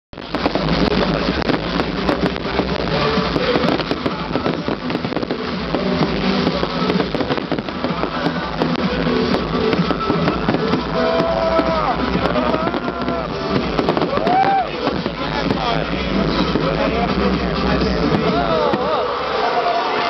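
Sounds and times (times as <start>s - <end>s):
fireworks crackling and popping: 0.2s - 20.0s
music playing: 0.2s - 20.0s.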